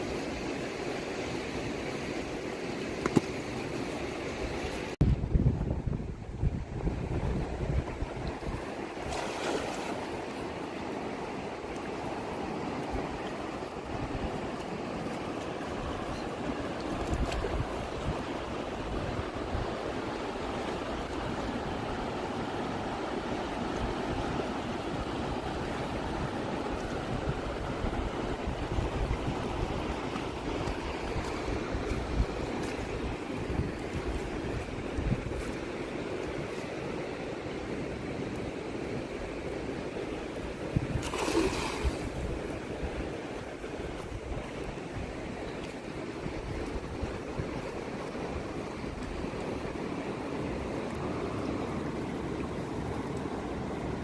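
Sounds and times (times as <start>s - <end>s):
river water rushing: 0.0s - 5.0s, 6.9s - 54.0s
wind on microphone: 4.4s - 9.8s, 12.9s - 38.2s, 38.9s - 54.0s.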